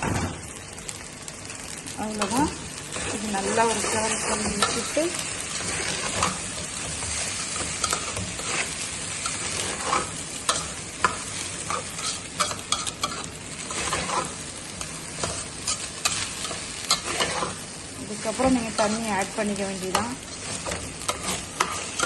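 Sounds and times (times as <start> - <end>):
steady sizzle: 0.0 - 22.0
spoon stirring grain in pot: 3.0 - 14.4, 15.1 - 17.6, 18.2 - 22.0.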